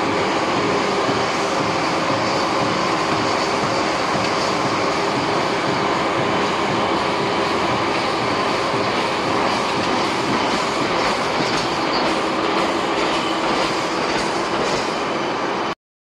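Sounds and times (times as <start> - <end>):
veneer peeling machinery running: 0.0 - 15.8.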